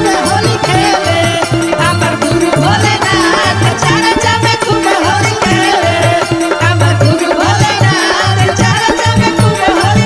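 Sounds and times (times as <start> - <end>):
percussion: 0.0 - 10.0.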